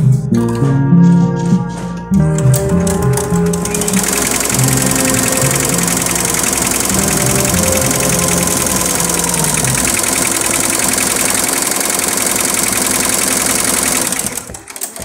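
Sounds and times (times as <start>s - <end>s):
embroidery machine stitching: 2.5s - 15.0s.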